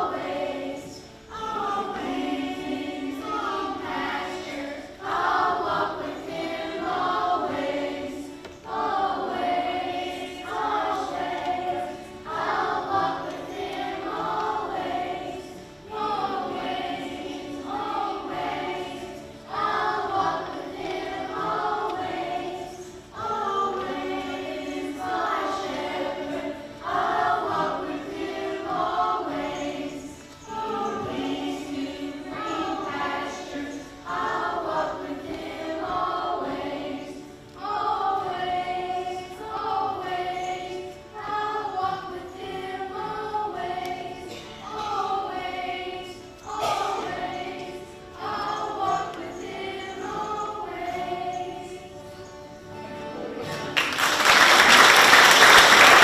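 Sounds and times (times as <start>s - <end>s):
congregation singing: 0.0s - 56.0s.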